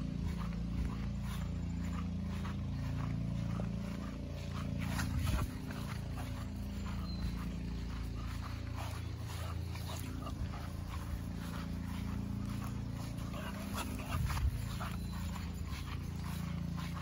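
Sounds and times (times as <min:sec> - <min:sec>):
faint ticks and rustles: 0:00.0 - 0:17.0
low steady hum: 0:00.0 - 0:17.0.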